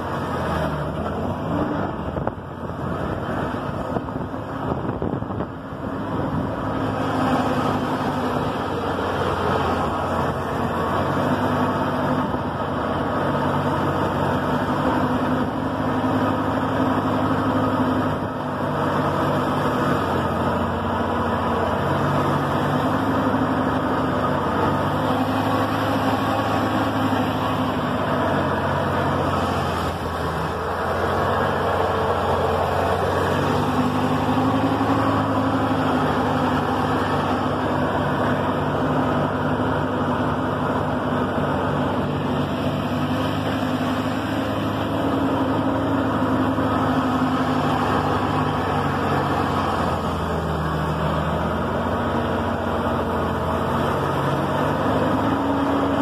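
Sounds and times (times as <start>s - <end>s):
car engine under load: 0.0s - 56.0s
gravel road noise: 0.0s - 56.0s.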